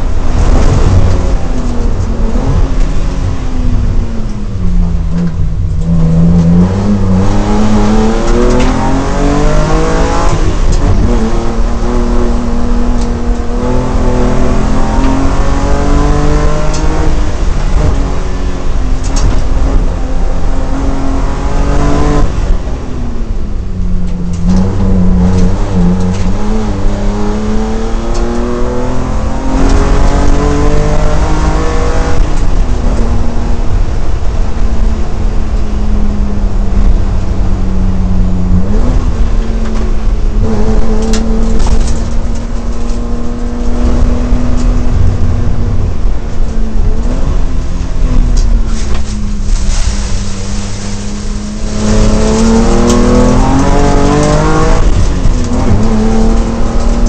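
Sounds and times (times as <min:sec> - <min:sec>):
gear change: 0:00.0 - 0:57.0
racing car engine revving: 0:00.0 - 0:57.0.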